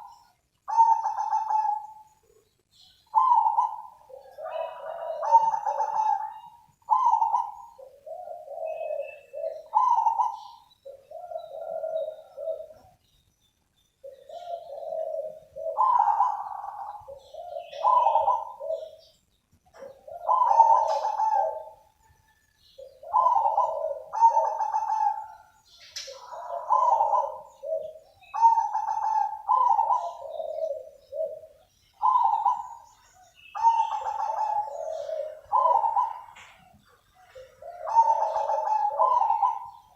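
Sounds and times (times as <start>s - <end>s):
dove cooing: 0.0s - 13.1s, 14.0s - 39.9s.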